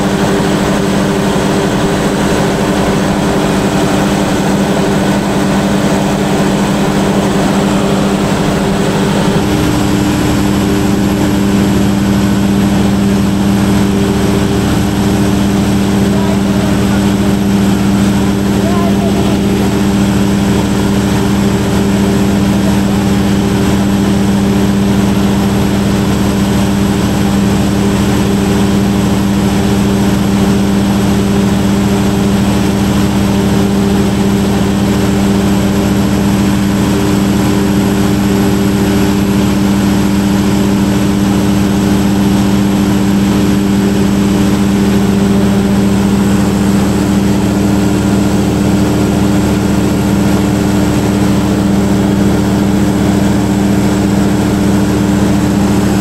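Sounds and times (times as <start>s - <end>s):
diesel generator running: 0.0s - 56.0s.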